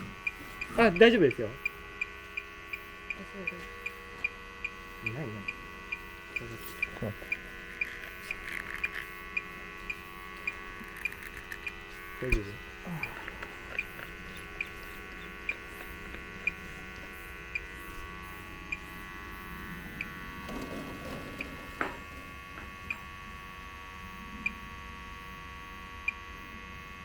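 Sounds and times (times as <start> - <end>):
leak detector beeping: 0.0 - 26.3
steady hum: 0.0 - 27.0.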